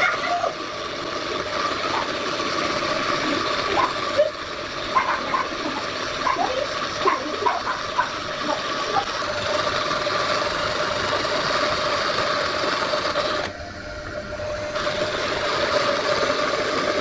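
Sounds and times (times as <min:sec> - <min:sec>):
electric power tool whining: 0:00.0 - 0:17.0.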